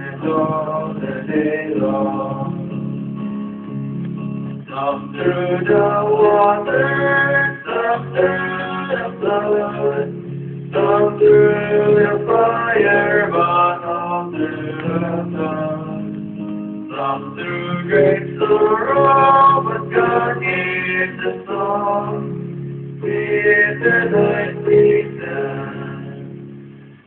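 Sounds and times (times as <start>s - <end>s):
two men singing a hymn: 0.0s - 2.8s, 4.7s - 16.2s, 16.9s - 26.4s
guitar accompaniment: 0.0s - 27.0s.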